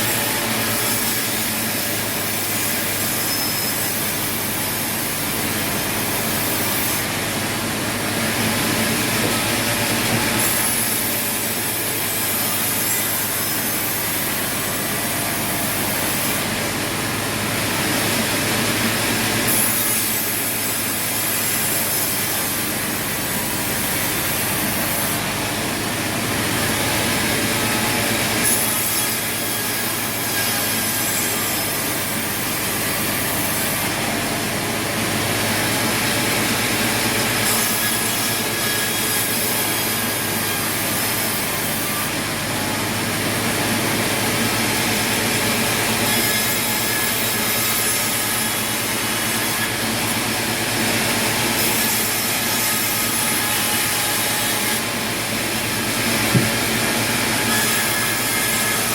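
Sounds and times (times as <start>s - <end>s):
sawmill saw cutting wood: 0.0s - 58.9s.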